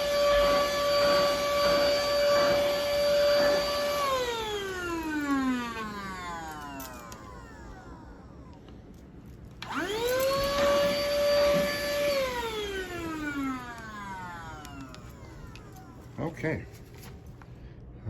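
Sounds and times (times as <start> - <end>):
handheld vacuum motor whining: 0.0 - 16.4.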